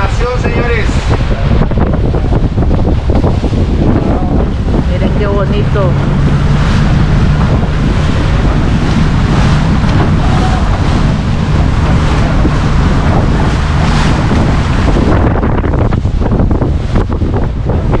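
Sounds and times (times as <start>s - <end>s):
boat engine droning: 0.0s - 18.0s
wind buffeting microphone: 0.0s - 18.0s.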